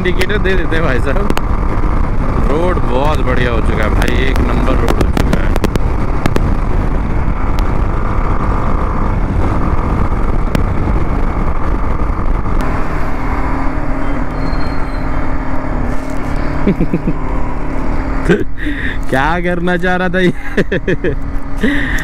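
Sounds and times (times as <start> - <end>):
wind rushing over microphone: 0.0 - 19.3
motorcycle engine running: 0.0 - 19.6.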